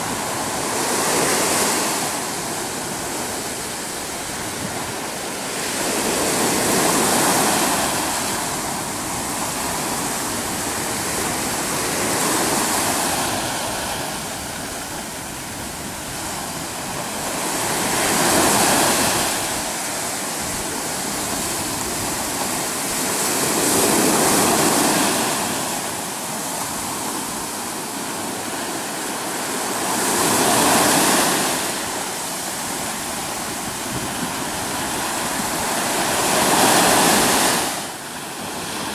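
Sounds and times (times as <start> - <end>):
waves breaking on rocks: 0.0 - 38.9.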